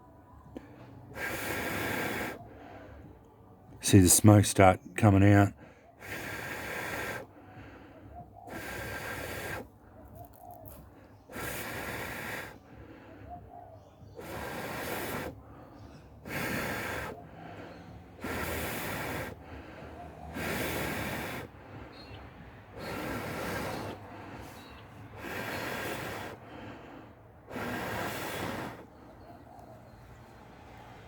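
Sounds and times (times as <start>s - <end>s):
person blowing long breaths: 0.6s - 3.1s, 5.6s - 13.4s, 14.1s - 29.2s.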